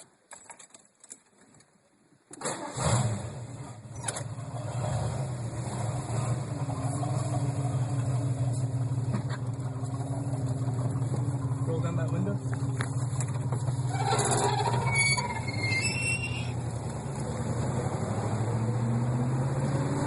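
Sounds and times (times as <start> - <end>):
loud car engine starting and idling: 2.4 - 20.0.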